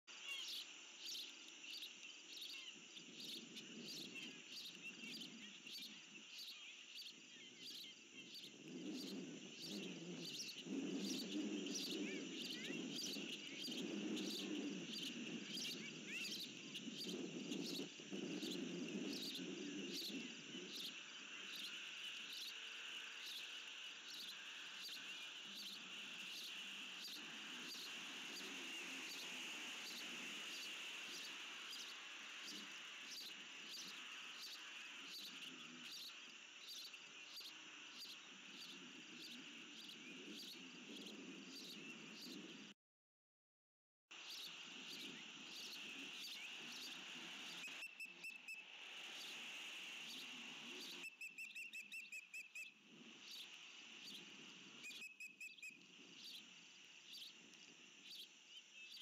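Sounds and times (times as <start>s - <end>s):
insects chirping: 0.1s - 42.6s, 44.2s - 59.0s.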